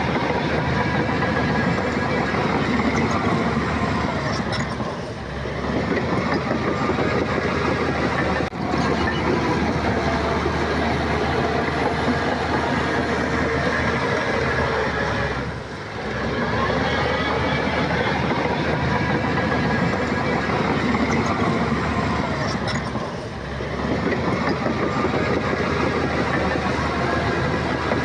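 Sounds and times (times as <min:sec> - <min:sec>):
heavy machinery clattering: 0:00.0 - 0:28.0.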